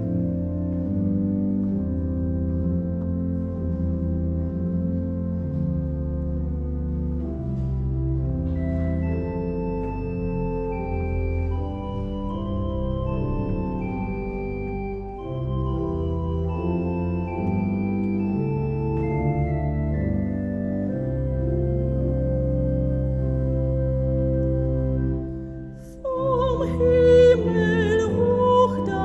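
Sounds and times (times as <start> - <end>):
pipe organ chords: 0.0 - 29.0.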